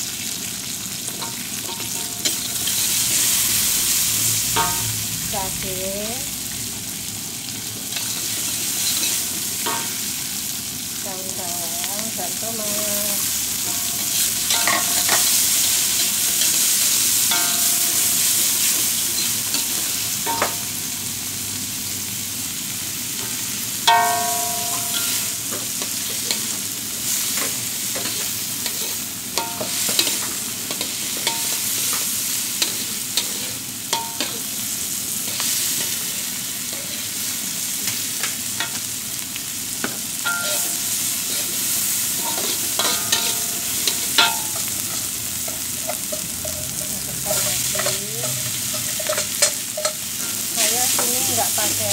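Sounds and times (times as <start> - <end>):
vegetables sizzling in a wok: 0.0 - 51.9
spatula scraping and knocking wok: 1.1 - 5.4, 7.7 - 10.3, 12.7 - 20.8, 23.2 - 38.9, 39.8 - 51.9.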